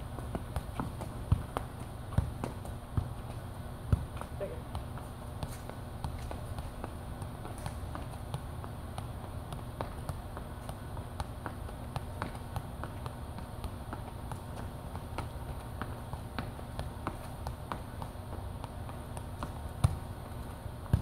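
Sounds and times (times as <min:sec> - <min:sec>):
light taps on football: 0:00.2 - 0:21.0.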